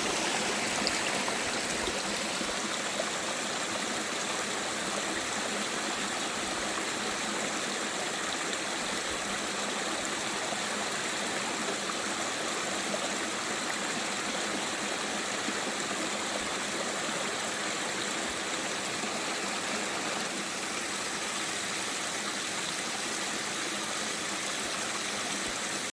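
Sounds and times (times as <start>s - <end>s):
water rushing over rocks: 0.0s - 25.9s.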